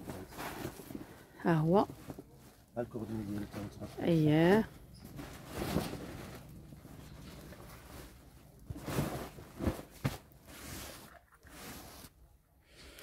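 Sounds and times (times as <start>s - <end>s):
fabric rustling and swishing: 0.0s - 12.2s.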